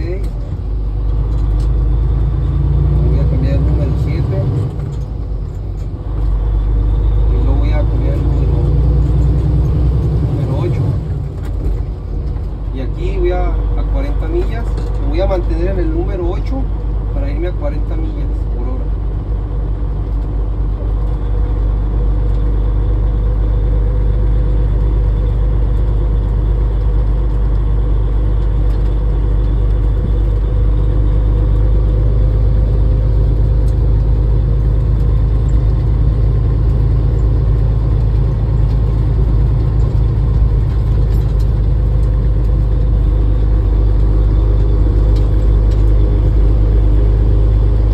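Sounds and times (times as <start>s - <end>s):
road noise: 0.0s - 47.9s
truck diesel engine running: 0.0s - 47.9s.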